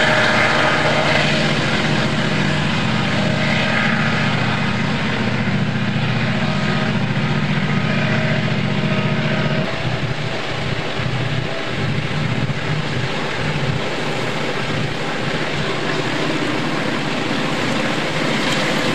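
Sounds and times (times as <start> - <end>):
diesel locomotive engines running: 0.0 - 18.9.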